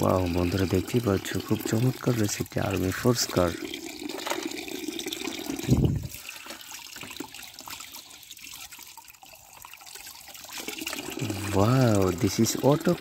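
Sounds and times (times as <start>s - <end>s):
water pouring into bucket: 0.0s - 13.0s
water trickling: 0.0s - 13.0s.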